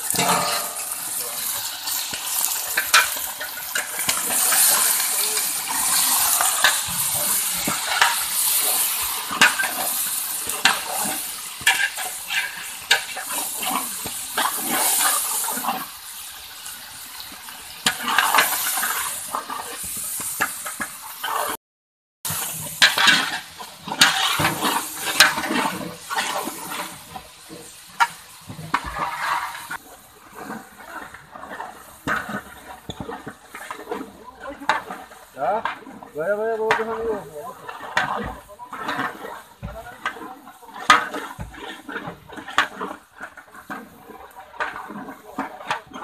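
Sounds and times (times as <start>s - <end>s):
meat and onions sizzling: 0.0s - 21.6s, 22.2s - 46.0s
metal ladle scraping a pot: 0.0s - 21.6s, 22.3s - 46.0s.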